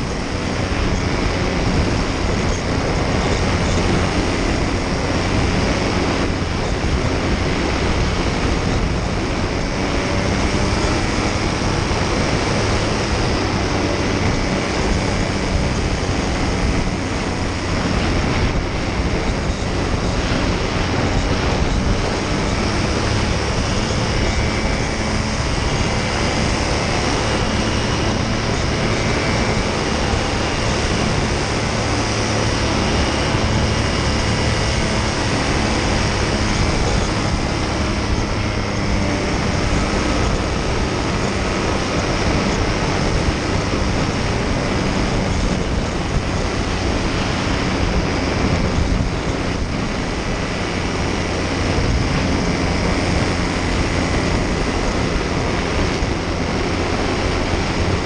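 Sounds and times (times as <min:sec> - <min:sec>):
paramotor engine and propeller: 0:00.0 - 0:58.0.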